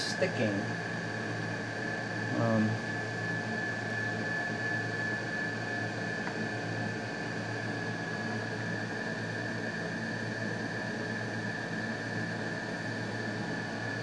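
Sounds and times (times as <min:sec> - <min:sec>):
background hum and hiss: 0:00.0 - 0:14.0
high-pitched whine: 0:00.0 - 0:14.0.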